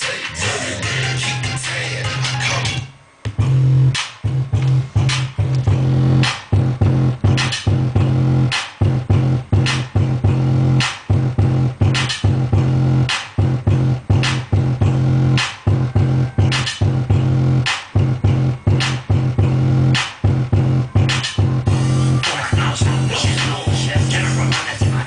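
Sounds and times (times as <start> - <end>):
hip hop beat through speakers: 0.0 - 25.0.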